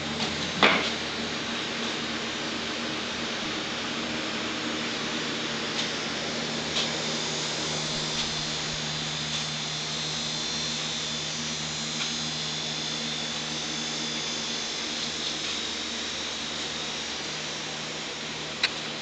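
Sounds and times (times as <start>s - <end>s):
machine humming and hissing: 0.0s - 19.0s.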